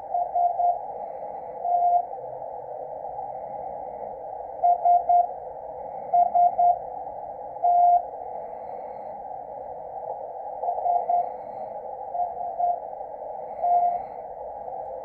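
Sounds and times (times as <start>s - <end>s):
receiver hiss: 0.0s - 15.0s.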